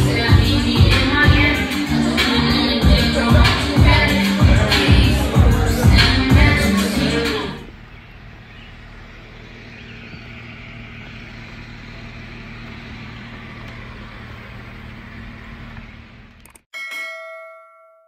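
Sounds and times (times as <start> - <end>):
car engine idling: 0.0 - 16.7.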